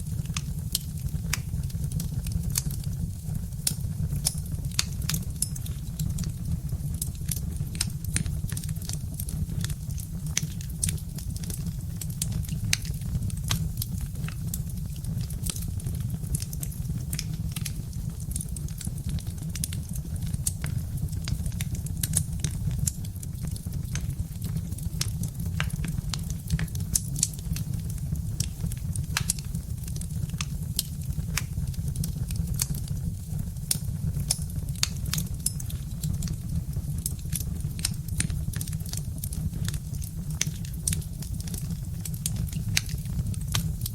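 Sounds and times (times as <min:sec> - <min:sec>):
fire rumbling: 0:00.0 - 0:43.9
logs crackling and popping: 0:00.0 - 0:43.9.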